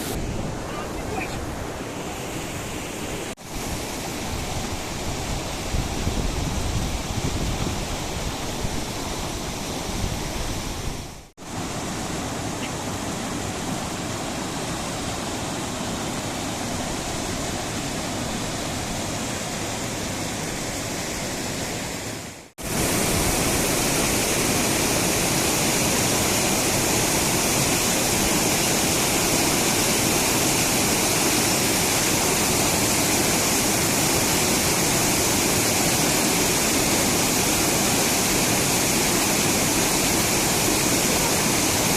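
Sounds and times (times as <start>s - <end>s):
flowing water rushing: 0.0s - 41.9s.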